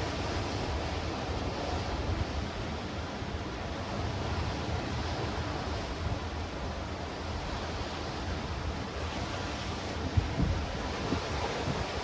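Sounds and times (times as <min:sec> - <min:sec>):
surf washing over rocks: 0:00.0 - 0:12.0
wind rumble on microphone: 0:00.0 - 0:12.0.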